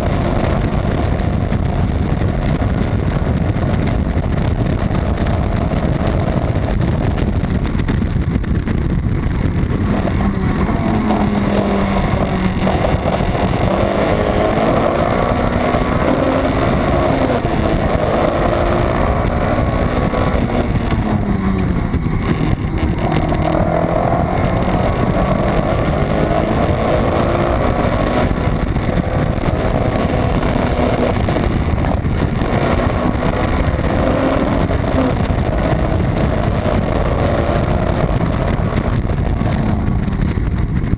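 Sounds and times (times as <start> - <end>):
car engine revving at speed: 0.0 - 40.9
road and wind noise: 0.0 - 40.9.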